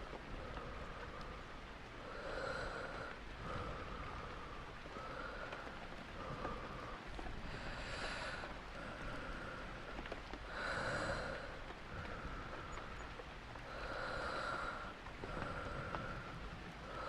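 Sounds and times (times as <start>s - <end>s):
slow breathing: 0.0s - 17.0s
steady rain: 0.0s - 17.0s.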